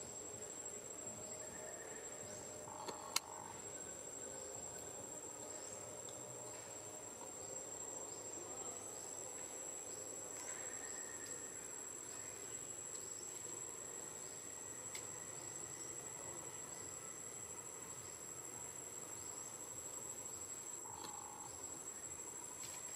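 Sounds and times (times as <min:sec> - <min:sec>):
insects trilling: 0:00.0 - 0:22.9.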